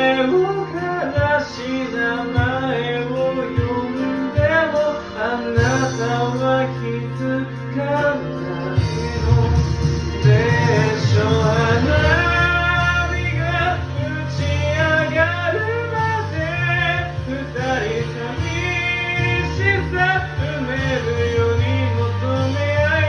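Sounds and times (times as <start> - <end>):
karaoke backing track: 0.0 - 23.0
person singing: 0.0 - 23.0.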